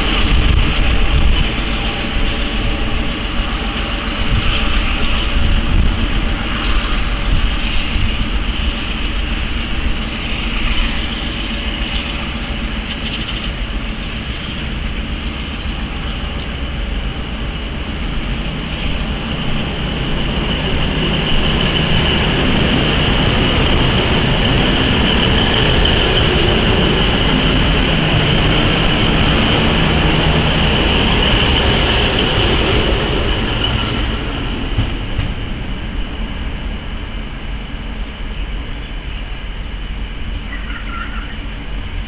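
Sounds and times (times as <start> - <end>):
diesel locomotive engines running: 0.0 - 42.0.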